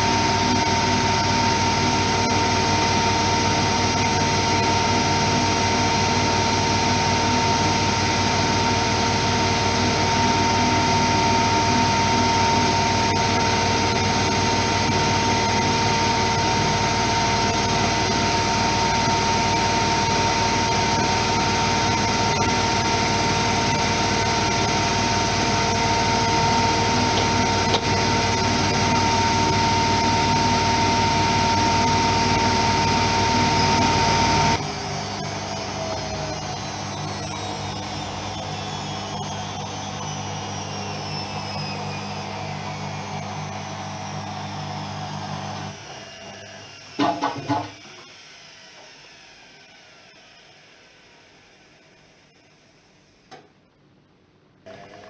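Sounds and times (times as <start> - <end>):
washing machine spinning: 0.0 - 52.0, 54.7 - 55.0.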